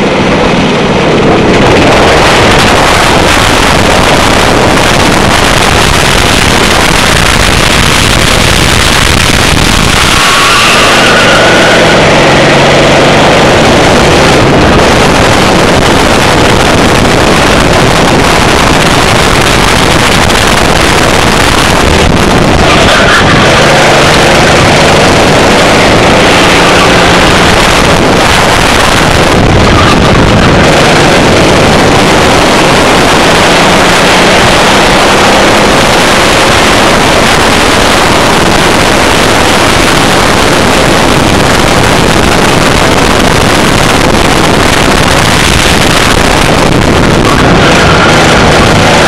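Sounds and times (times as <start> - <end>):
kart engine running hard: 0.0 - 49.0
wind buffeting microphone: 0.0 - 49.0.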